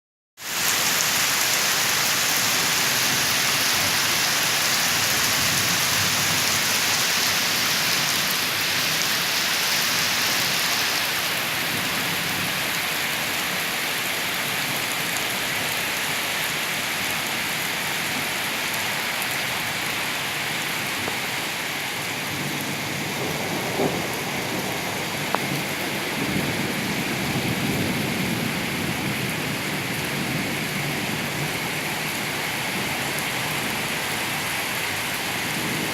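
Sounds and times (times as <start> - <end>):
heavy rain: 0.4 - 35.9.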